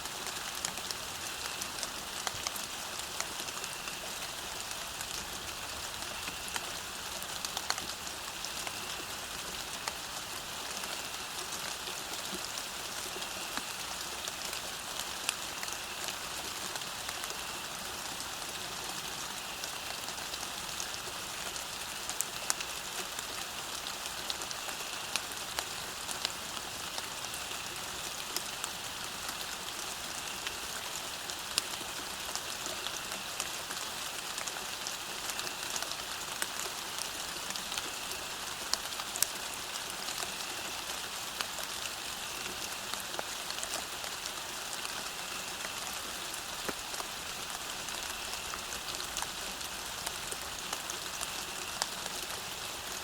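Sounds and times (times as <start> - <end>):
raindrops ticking close by: 0.0 - 53.0
steady rain hiss: 0.0 - 53.0.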